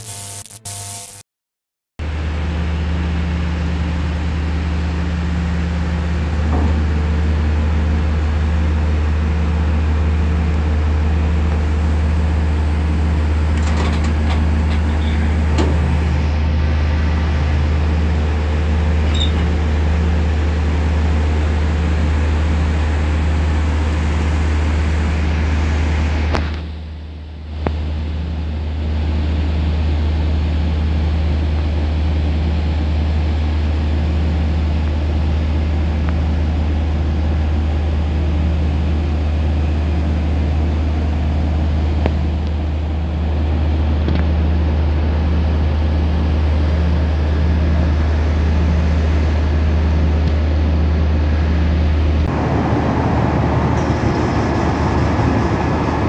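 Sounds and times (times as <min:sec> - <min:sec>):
boat engine droning: 0:02.0 - 0:56.0
constant hum: 0:02.0 - 0:56.0.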